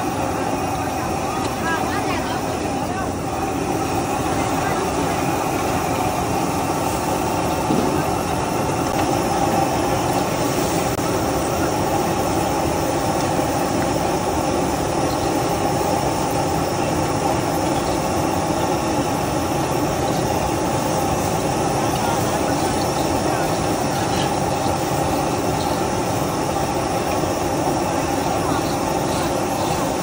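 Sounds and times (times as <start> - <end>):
exhaust fan: 0.0 - 30.0
gas wok burner roaring: 0.0 - 30.0.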